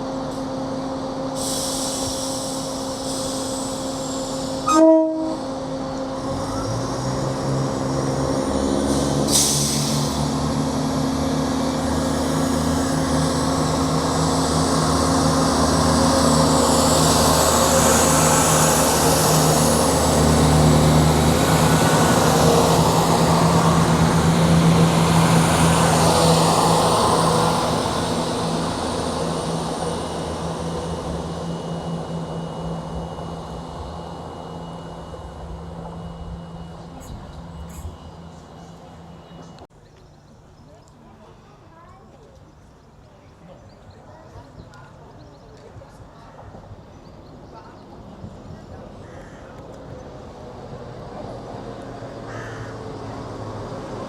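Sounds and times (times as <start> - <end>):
diesel train engine drone: 0.0 - 54.0
rail noise: 0.0 - 54.0.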